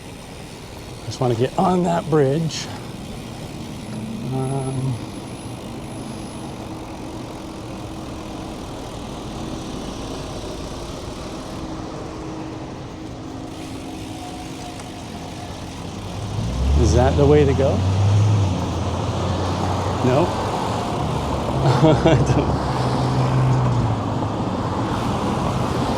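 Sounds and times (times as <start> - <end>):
car engines running: 0.0 - 25.9
faint engine hum: 0.0 - 25.9.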